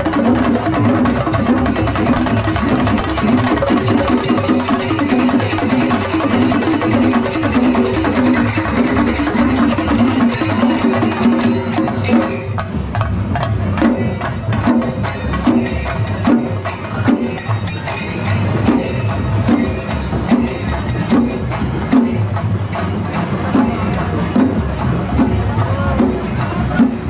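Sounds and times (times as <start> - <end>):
drums and cymbals playing: 0.0 - 27.0.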